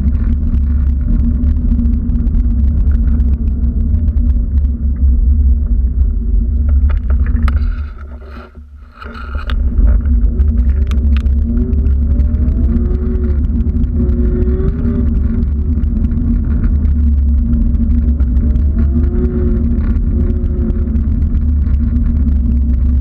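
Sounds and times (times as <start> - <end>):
loud low microphone rumble: 0.0 - 23.0.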